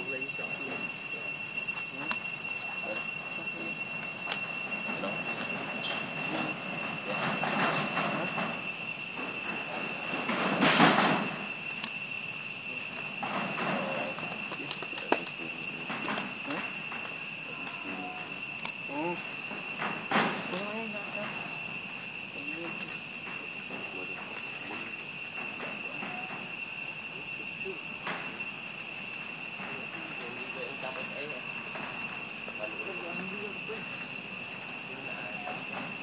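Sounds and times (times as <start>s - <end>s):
insects chorus drone: 0.0s - 36.0s.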